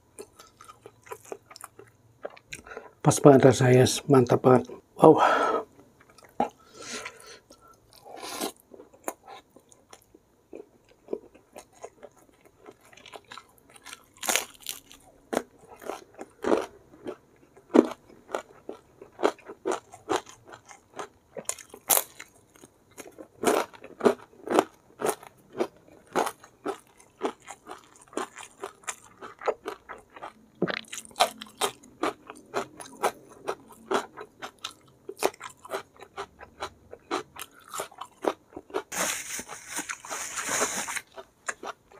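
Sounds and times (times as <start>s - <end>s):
person chewing crunchy food: 0.0s - 3.0s, 6.0s - 41.9s.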